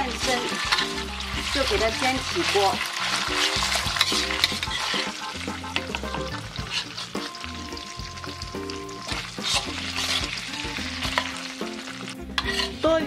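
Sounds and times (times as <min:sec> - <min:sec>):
chicken sizzling in hot oil: 0:00.0 - 0:13.0
metal spatula scraping wok: 0:00.0 - 0:13.0
soft background music: 0:00.0 - 0:13.0.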